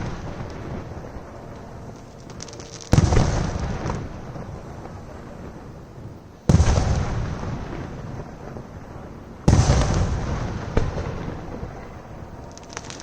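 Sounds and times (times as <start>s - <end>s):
firework shells booming: 0.0s - 5.2s, 6.4s - 13.0s
firework crack: 0.0s - 13.0s.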